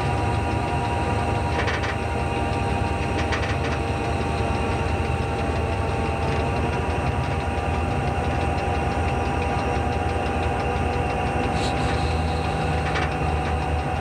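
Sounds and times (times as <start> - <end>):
locomotive engine rumble: 0.0 - 14.0
wheels on rails: 0.0 - 14.0.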